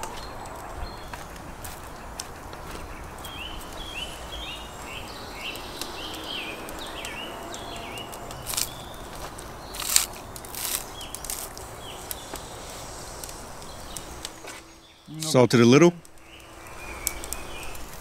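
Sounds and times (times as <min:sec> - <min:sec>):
outdoor background noise: 0:00.0 - 0:18.0
small bird chirping: 0:00.0 - 0:18.0.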